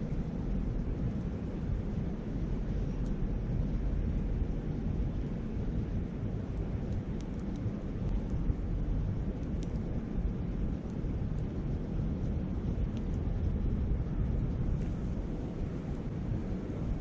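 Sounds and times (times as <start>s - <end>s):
wind buffeting microphone: 0.0s - 17.0s
campfire crackling: 0.1s - 17.0s.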